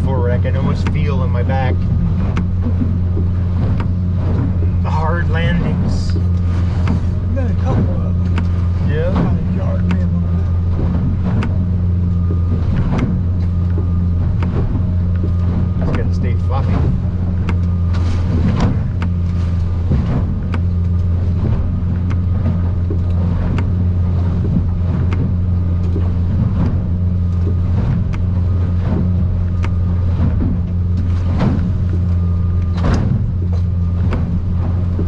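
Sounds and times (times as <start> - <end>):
boat engine droning: 0.0 - 35.0
hull slapping on waves: 0.0 - 35.0.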